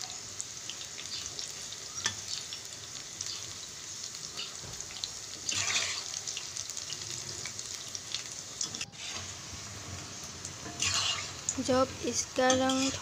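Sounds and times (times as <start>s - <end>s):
deep-frying sizzle with crackles: 0.0s - 13.0s.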